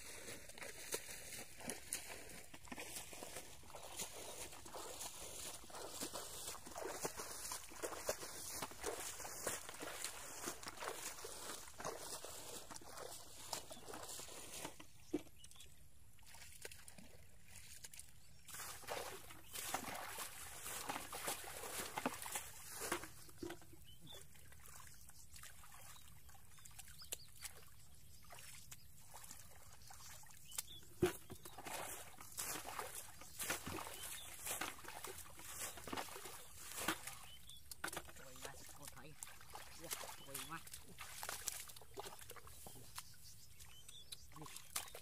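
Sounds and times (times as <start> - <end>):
splashing in muddy water: 0.0 - 45.0.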